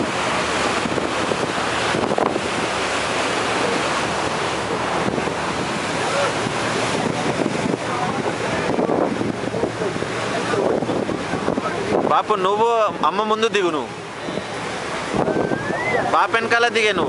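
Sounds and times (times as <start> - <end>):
wind buffeting microphone: 0.0 - 13.1, 13.8 - 17.0
boat wake water churning: 0.0 - 17.0.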